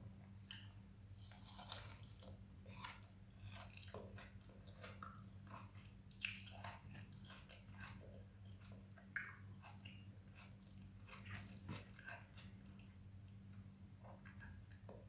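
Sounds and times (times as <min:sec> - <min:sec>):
steady low hum: 0:00.0 - 0:15.0
wet chewing and smacking: 0:00.4 - 0:15.0.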